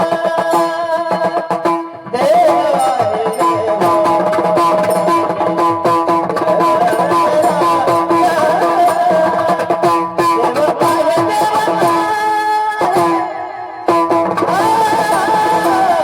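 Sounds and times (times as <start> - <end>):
devotional singing with held tones: 0.0 - 16.0
drum and hand percussion: 0.0 - 16.0.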